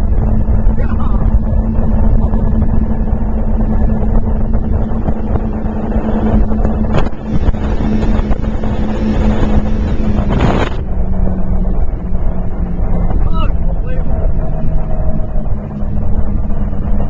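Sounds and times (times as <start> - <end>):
speedboat engine at high speed: 0.0 - 17.0
wind buffeting microphone: 0.0 - 17.0.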